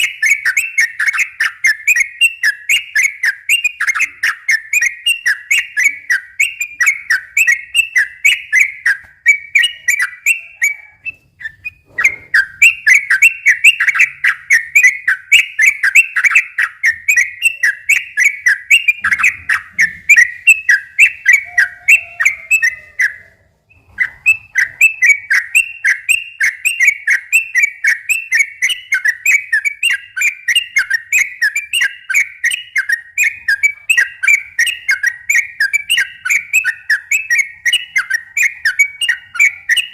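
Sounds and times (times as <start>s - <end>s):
bird singing chattering whistles: 0.0s - 39.9s.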